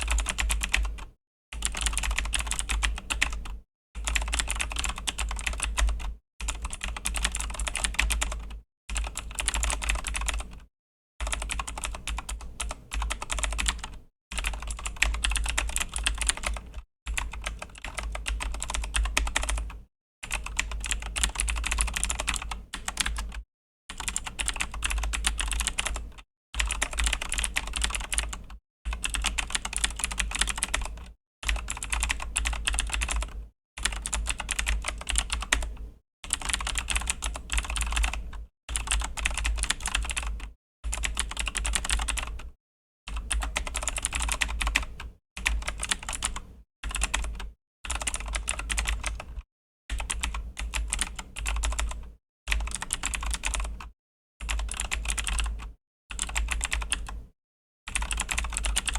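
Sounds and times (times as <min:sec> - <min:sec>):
clicky mechanical keyboard typing: 0:00.0 - 0:42.5, 0:43.1 - 0:57.2, 0:57.9 - 0:58.9.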